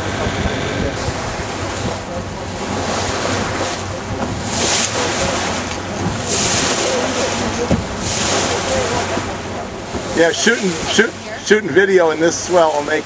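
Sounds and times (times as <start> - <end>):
wind on microphone: 0.0 - 11.3
water washing against hull: 0.0 - 13.0.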